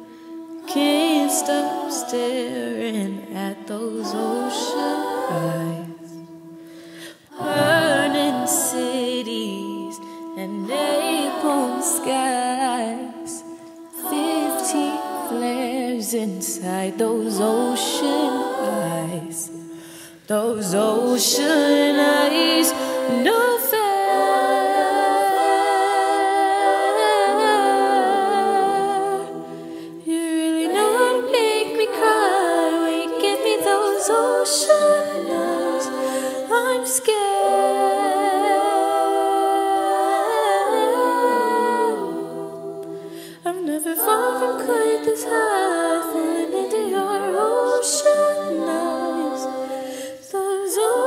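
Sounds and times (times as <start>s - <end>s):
vocal ensemble singing a cappella: 0.0s - 51.0s.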